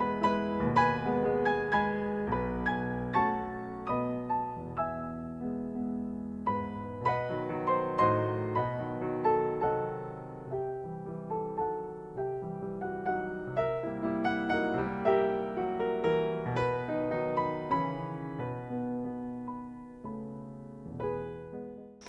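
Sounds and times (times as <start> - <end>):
slow gentle piano piece: 0.0 - 22.0.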